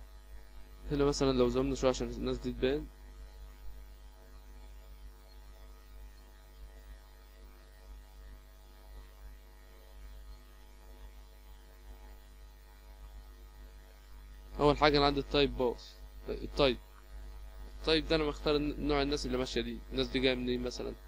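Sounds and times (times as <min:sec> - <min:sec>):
faint electrical hum: 0:00.0 - 0:21.0
low hiss: 0:00.0 - 0:21.0.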